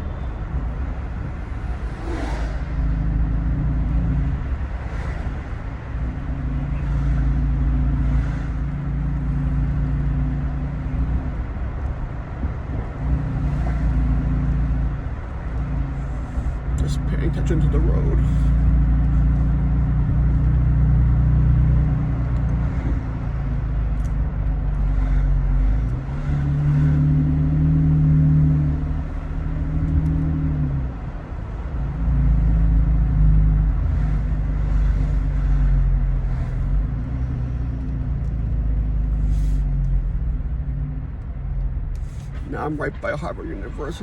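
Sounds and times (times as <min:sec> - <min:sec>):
truck engine droning while driving: 0:00.0 - 0:44.0.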